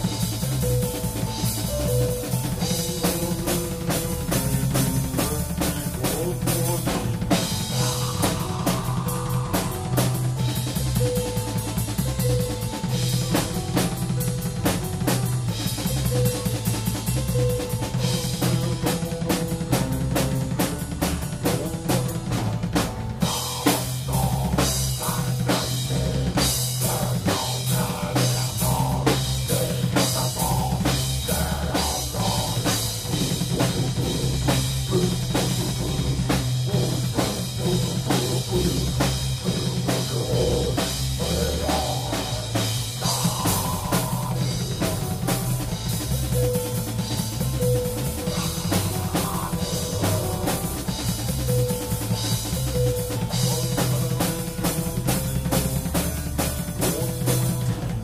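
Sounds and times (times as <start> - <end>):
fast drum-kit beat: 0.0 - 58.0
steady bass: 0.0 - 58.0.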